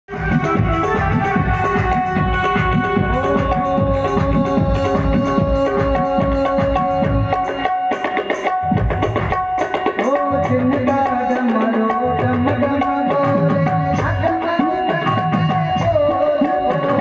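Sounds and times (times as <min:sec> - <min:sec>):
tabla playing fast strokes: 0:00.1 - 0:17.0.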